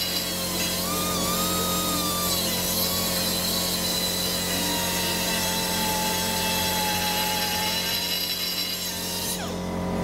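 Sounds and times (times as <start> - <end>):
rotary tool grinding metal: 0.0 - 9.8.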